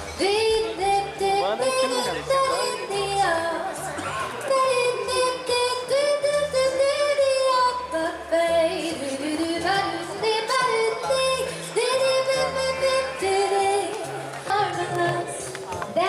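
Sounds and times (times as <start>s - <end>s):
person singing: 0.2s - 16.0s.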